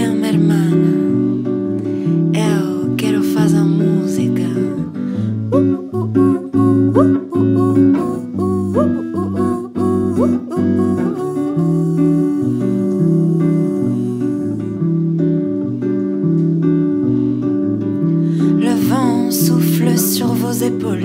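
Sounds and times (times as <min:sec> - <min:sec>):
guitar notes sliding upward: 0:00.0 - 0:21.0.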